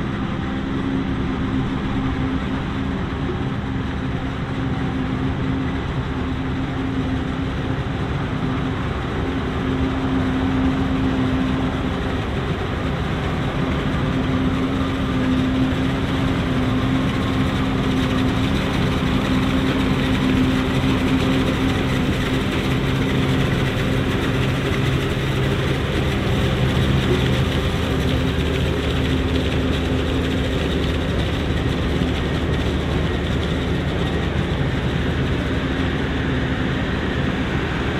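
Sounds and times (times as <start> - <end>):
forage harvester droning: 0.0 - 37.9.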